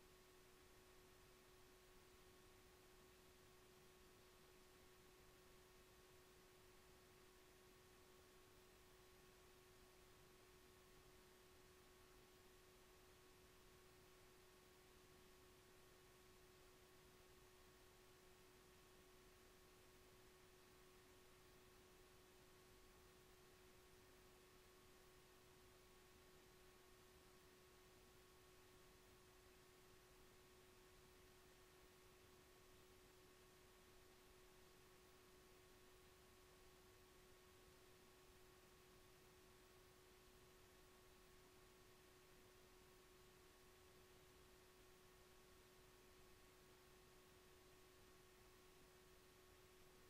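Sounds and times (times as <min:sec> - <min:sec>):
faint steady hiss: 0:00.0 - 0:50.0
thin constant hum: 0:00.0 - 0:50.0.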